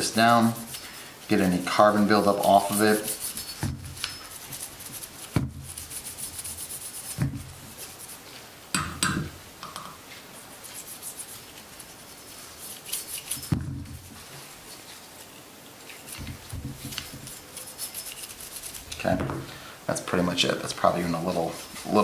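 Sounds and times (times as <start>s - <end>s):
brush scrubbing metal: 0.0s - 8.5s, 10.1s - 19.2s, 20.2s - 22.0s.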